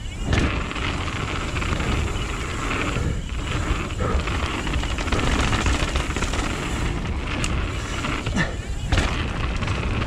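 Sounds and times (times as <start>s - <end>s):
tyres rolling on dirt: 0.0s - 10.0s
wind rushing over microphone: 0.0s - 10.0s.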